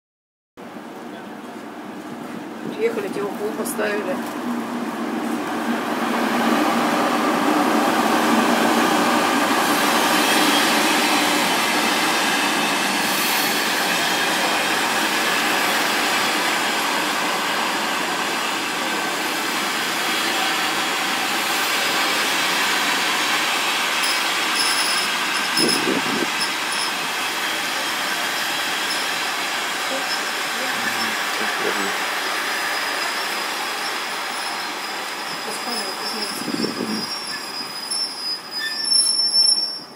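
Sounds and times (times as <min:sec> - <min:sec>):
train wheels rumbling on rails: 0:01.0 - 0:39.9.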